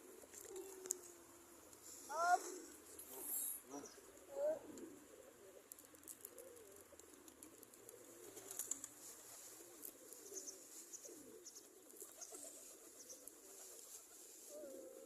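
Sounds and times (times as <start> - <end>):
pigeons cooing softly: 0.0 - 15.0.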